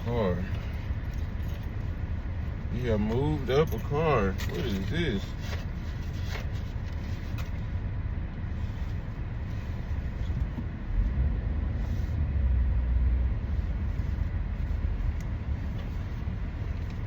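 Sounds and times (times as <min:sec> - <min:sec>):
car engine cabin rumble: 0:00.0 - 0:17.0.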